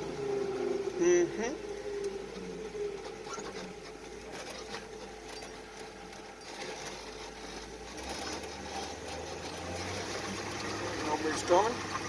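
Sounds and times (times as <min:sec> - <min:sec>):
truck engine drone from inside cab: 0:00.0 - 0:12.0.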